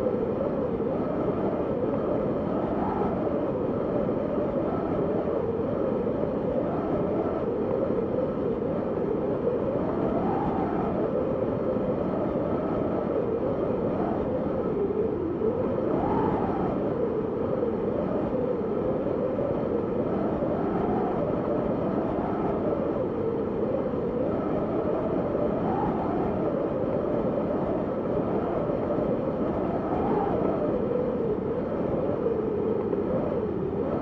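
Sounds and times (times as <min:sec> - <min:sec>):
wind howling: 0:00.0 - 0:34.0.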